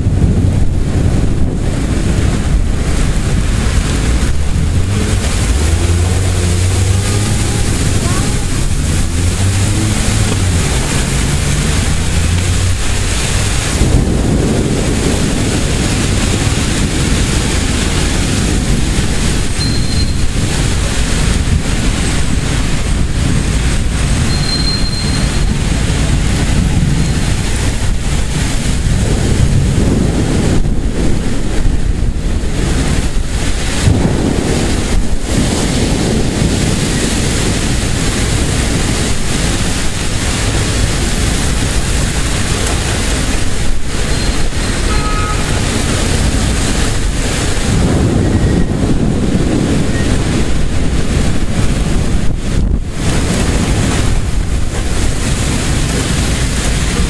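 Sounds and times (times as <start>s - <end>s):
heavy rain: 0.0s - 57.0s
strong gusting wind: 0.0s - 57.0s.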